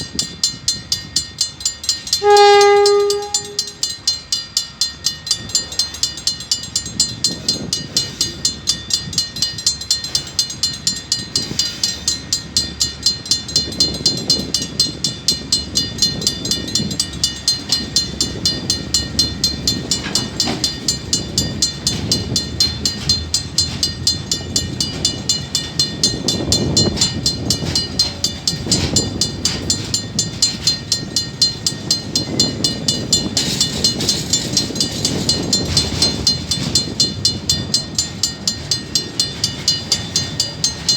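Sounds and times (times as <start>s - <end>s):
diesel train rumbling: 0.0s - 40.9s
level crossing warning bell: 0.0s - 40.9s.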